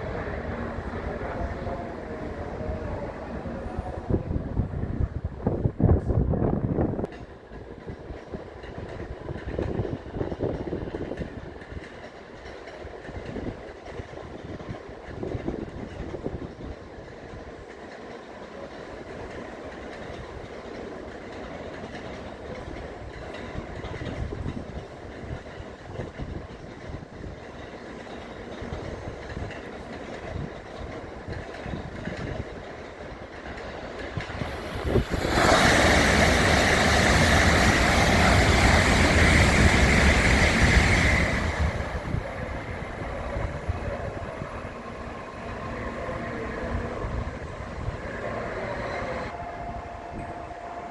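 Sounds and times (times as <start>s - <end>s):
high-speed train rushing past: 0.0s - 50.9s.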